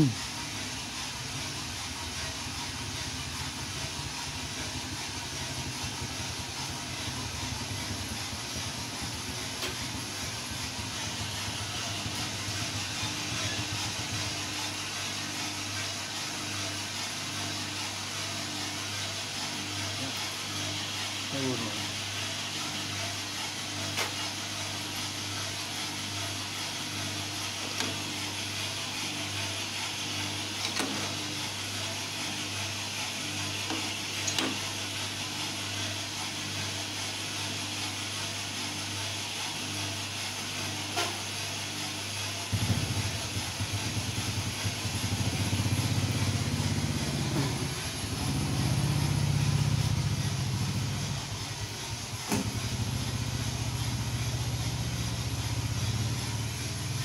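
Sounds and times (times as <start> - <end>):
coffee roaster motor hum: 0.0 - 57.0.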